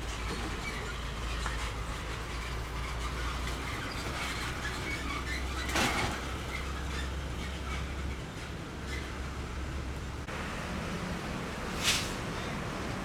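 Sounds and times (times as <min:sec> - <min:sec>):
trailer rattling over rails: 0:00.0 - 0:13.0.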